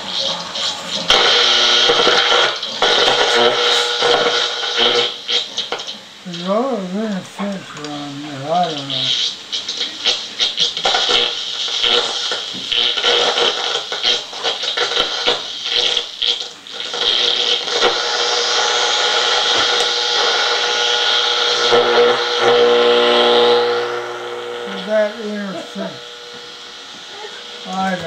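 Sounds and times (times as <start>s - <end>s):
radio receiver static and hiss: 0.0s - 28.0s
steady buzzing tone: 0.0s - 28.0s.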